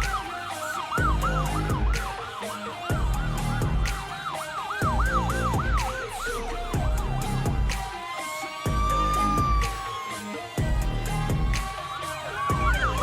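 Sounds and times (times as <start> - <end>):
dance music with heavy bass: 0.0 - 13.0
electronic siren yelping: 0.0 - 13.0.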